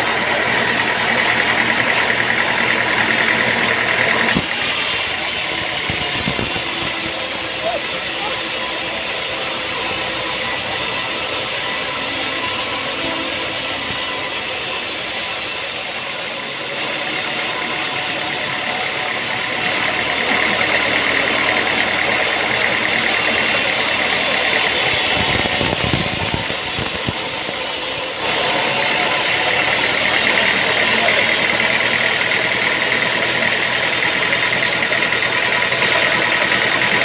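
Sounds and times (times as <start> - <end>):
engine running with rattle: 0.0 - 37.0.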